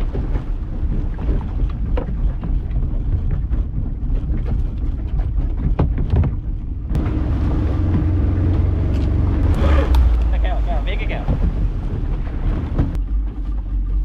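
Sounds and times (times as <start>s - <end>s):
boat motor rumbling: 0.0s - 14.0s
wind on microphone: 0.0s - 14.0s.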